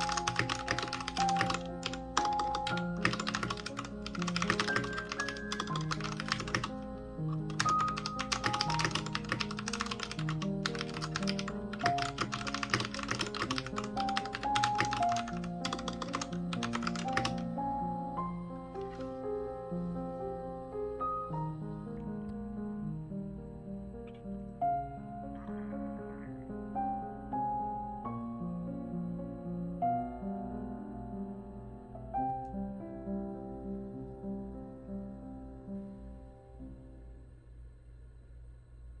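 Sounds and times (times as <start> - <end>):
background music: 0.0 - 36.8.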